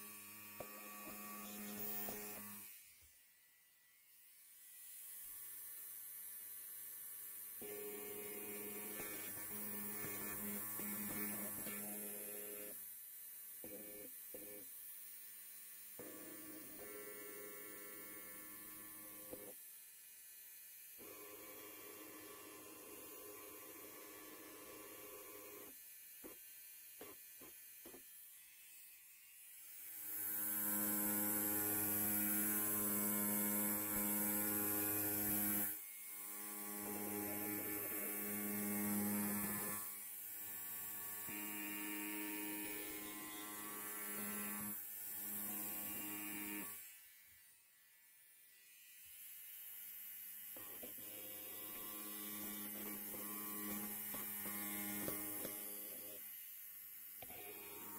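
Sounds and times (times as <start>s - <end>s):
electric hair clipper buzzing: 0.0s - 57.9s.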